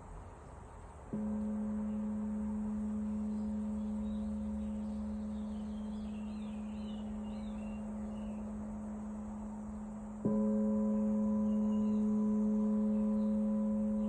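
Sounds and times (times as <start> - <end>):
bird chirping: 0.4 - 14.0
singing bowl ringing: 1.1 - 14.0.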